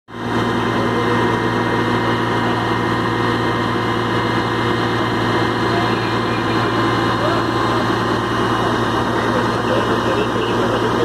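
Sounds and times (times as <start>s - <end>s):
large engine idling: 0.1s - 11.0s
steady whine: 0.1s - 11.0s.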